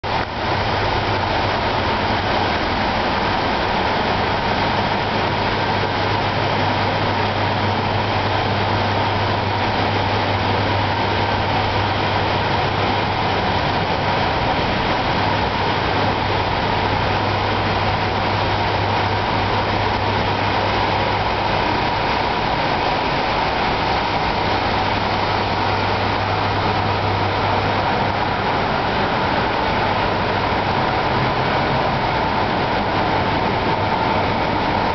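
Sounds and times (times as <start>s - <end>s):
server fans rushing: 0.0s - 34.9s.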